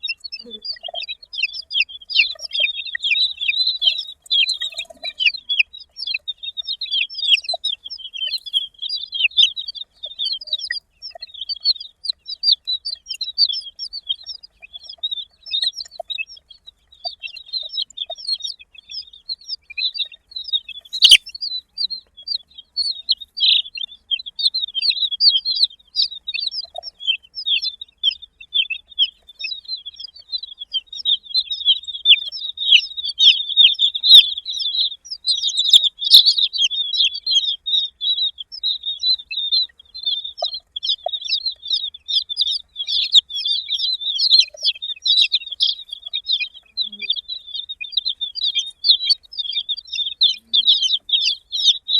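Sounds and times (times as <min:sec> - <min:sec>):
baby chicks peeping: 0:00.0 - 0:51.9.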